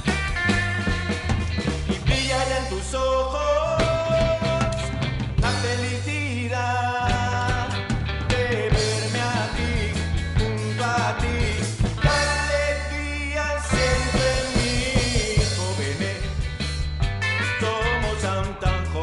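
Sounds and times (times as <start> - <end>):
band song playing: 0.0 - 19.0.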